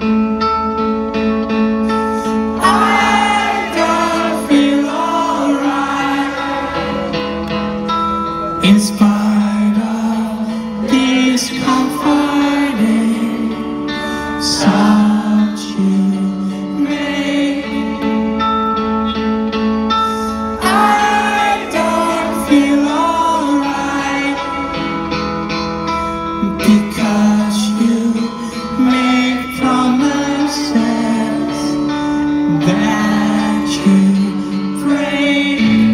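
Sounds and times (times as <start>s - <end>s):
live rock band: 0.0s - 35.9s
man singing: 2.4s - 7.4s, 8.5s - 18.8s, 20.5s - 25.4s, 26.3s - 35.9s.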